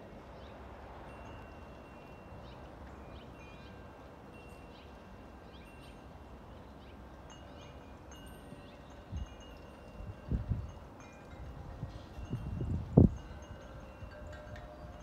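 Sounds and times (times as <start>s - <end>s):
wind chimes ringing: 0.9s - 15.0s.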